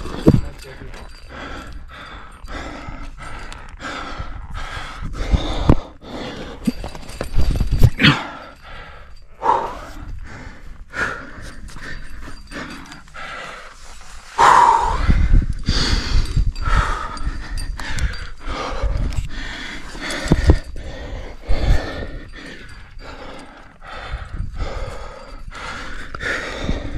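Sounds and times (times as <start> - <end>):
person panting and sighing: 0.0 - 26.9.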